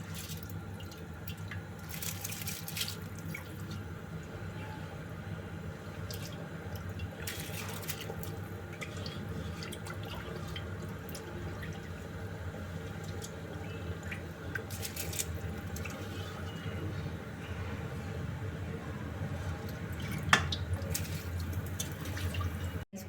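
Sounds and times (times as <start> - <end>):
boiling water bubbling and splashing: 0.0 - 17.4, 19.1 - 22.9
steady low hum: 0.0 - 23.0.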